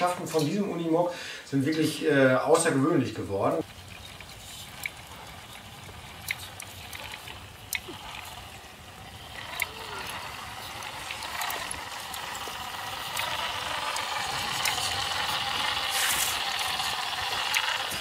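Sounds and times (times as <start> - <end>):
tyres ticking on grit: 1.7 - 18.0
toy truck motor whine: 3.1 - 18.0.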